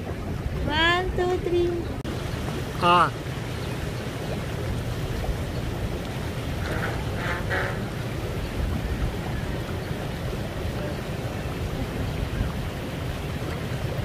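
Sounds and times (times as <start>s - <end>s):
jacuzzi jets bubbling water: 0.0s - 14.0s.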